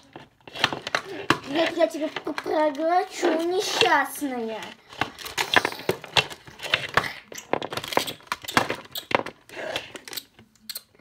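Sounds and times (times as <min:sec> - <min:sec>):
plastic toy clicks and rustles: 0:00.1 - 0:11.0.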